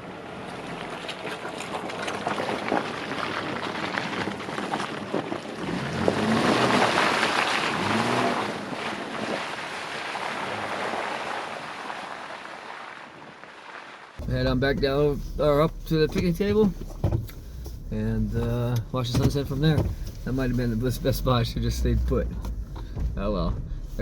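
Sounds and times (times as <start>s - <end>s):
vehicle engine: 0.0s - 13.0s, 14.2s - 24.0s
tyres on wet track: 0.0s - 24.0s.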